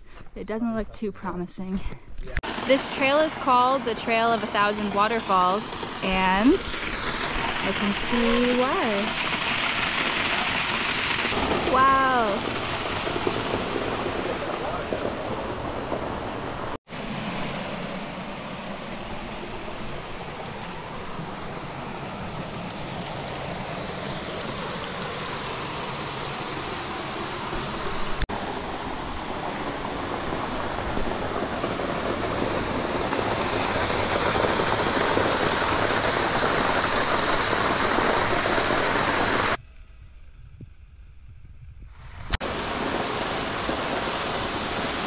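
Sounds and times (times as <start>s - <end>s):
water rushing down a waterfall: 2.5s - 39.6s, 42.4s - 45.0s.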